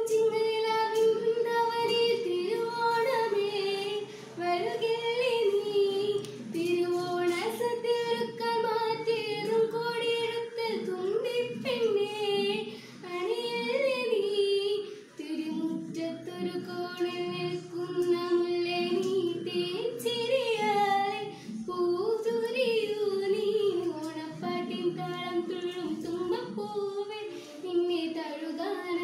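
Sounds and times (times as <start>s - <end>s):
girl singing: 0.0s - 29.0s.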